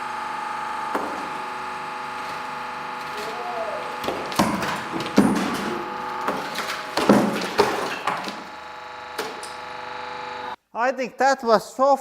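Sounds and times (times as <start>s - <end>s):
steady machine hum: 0.0s - 10.6s.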